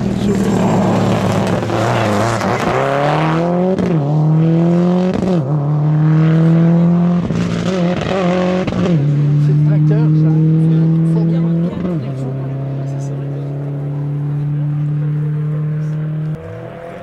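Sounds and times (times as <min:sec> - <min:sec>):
car engine accelerating through gears: 0:00.0 - 0:17.0.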